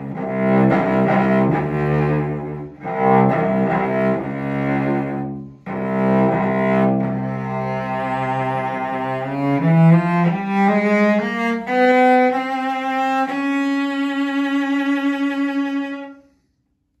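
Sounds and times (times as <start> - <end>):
bowed cello: 0.0 - 16.5.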